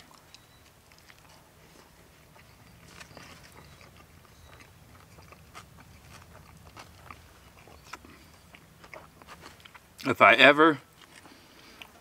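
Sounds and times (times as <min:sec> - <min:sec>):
person chewing crunchy food: 0:00.0 - 0:10.1, 0:10.8 - 0:12.0.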